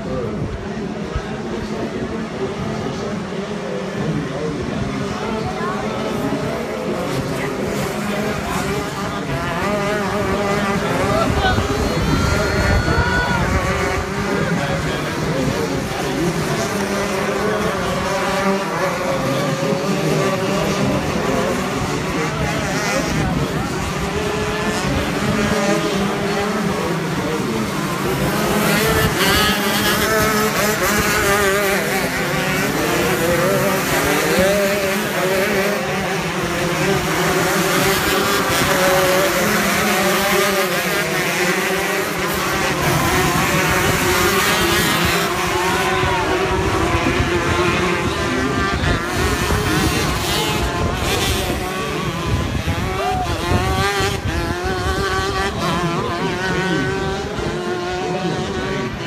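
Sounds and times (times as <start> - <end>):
kart engines racing: 0.0 - 59.0.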